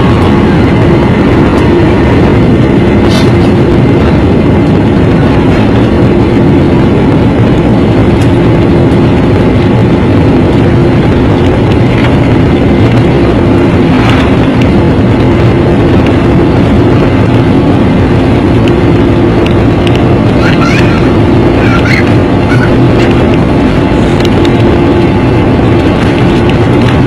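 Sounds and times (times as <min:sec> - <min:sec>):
airliner jet engines in cabin: 0:00.0 - 0:27.0.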